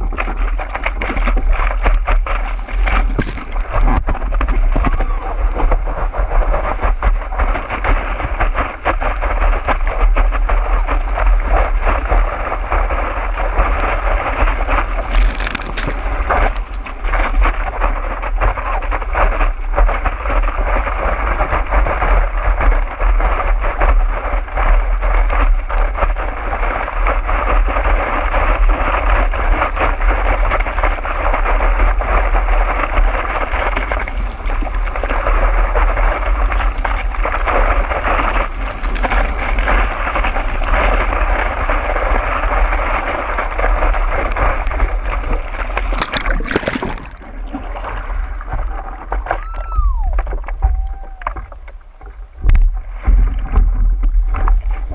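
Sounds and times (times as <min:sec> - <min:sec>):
water rushing and splashing: 0:00.0 - 0:54.9
wind buffeting microphone: 0:00.0 - 0:54.9.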